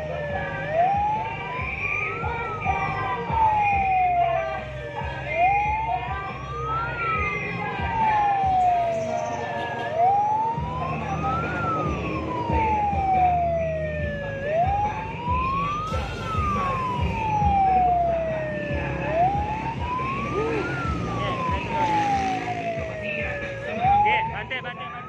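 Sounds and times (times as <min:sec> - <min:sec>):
vehicle engines running: 0:00.0 - 0:25.0
vehicle siren wailing: 0:00.0 - 0:25.0.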